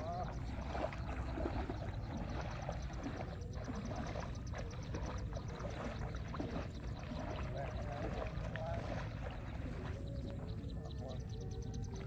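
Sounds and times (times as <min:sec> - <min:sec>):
footsteps splashing through water: 0:00.0 - 0:12.0.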